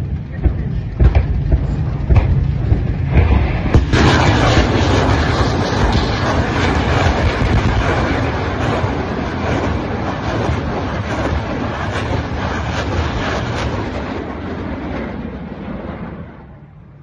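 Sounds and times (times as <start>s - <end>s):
rocket salvo roaring with crackle: 0.0s - 17.0s.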